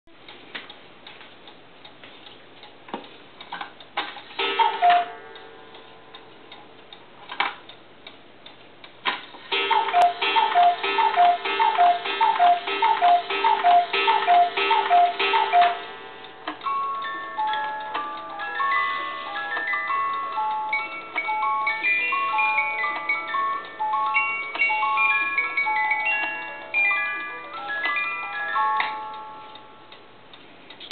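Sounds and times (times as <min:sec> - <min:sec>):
clock ticking: 0:02.6 - 0:30.9.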